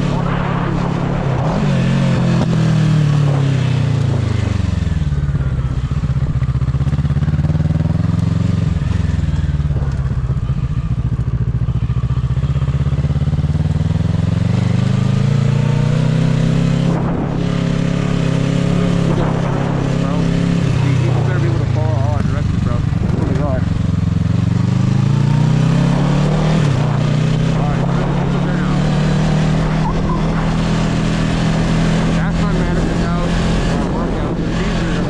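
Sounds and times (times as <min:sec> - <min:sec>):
motorcycle engine riding: 0:00.0 - 0:35.0.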